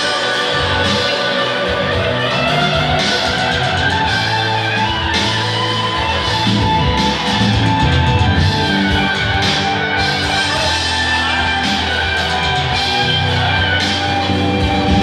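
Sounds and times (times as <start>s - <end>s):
drum kit: 0.0s - 15.0s
electric guitar: 0.0s - 15.0s
held low notes: 0.0s - 15.0s.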